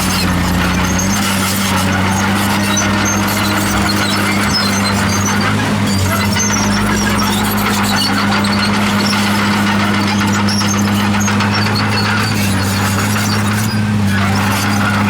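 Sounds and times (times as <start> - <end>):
bulldozer diesel engine running: 0.0 - 15.0
machine squeaking: 0.0 - 15.0.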